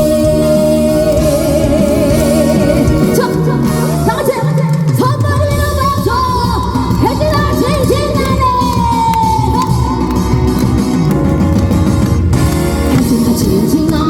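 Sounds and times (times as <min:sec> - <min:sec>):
band accompaniment: 0:00.0 - 0:14.0.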